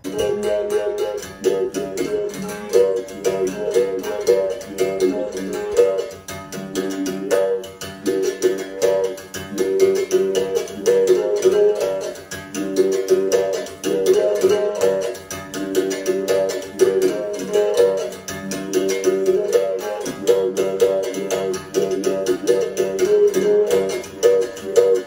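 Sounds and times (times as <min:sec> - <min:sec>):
plucked string music: 0:00.0 - 0:25.0.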